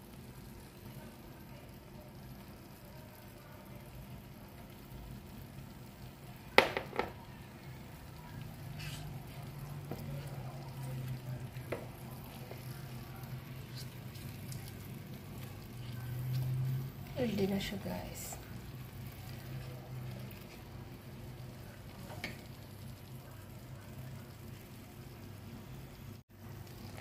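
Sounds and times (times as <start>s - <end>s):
rice bubbling in a pan: 0.0s - 27.0s.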